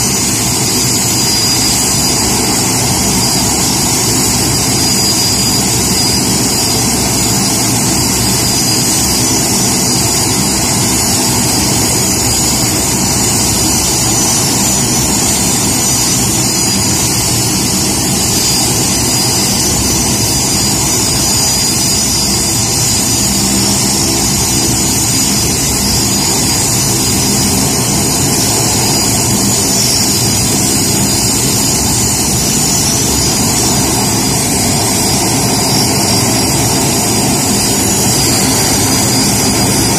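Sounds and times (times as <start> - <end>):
jet engine low rumble: 0.0 - 39.9
jet engine whine: 0.0 - 39.9.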